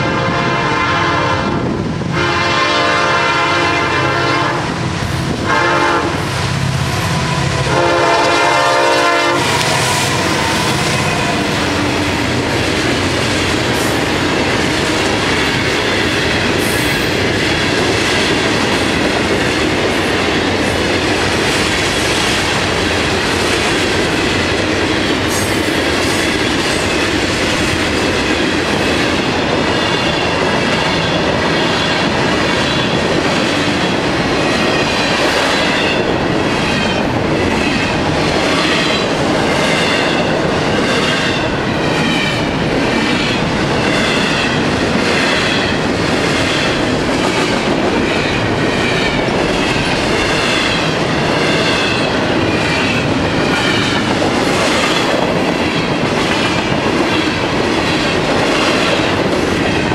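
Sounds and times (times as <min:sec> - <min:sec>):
freight cars rumbling and rattling: 0:04.7 - 0:59.9.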